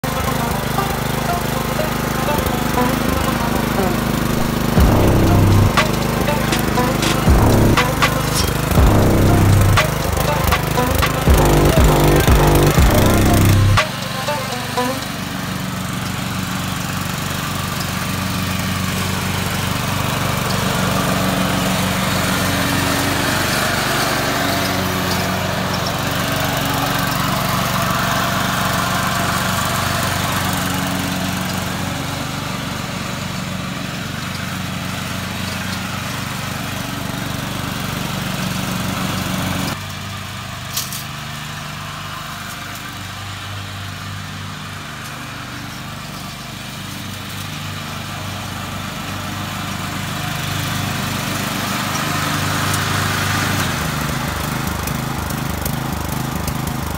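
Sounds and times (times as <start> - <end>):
riding lawn mower engine: 0.0 - 56.9.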